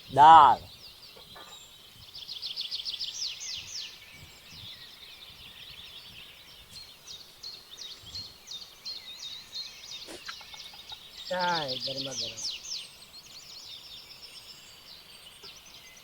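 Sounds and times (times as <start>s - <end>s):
faint outdoor background noise: 0.0s - 16.0s
small birds singing: 0.0s - 16.0s.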